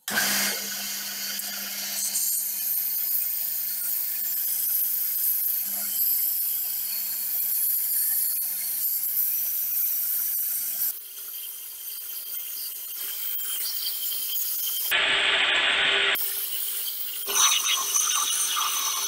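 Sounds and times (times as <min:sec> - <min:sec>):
power tool hissing on steel: 0:00.0 - 0:15.0, 0:16.0 - 0:19.0.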